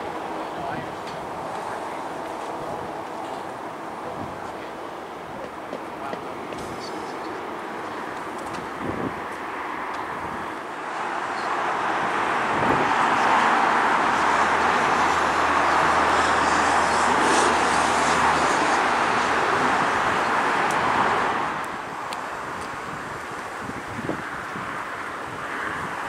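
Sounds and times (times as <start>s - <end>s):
jet engine rush: 0.0s - 26.0s.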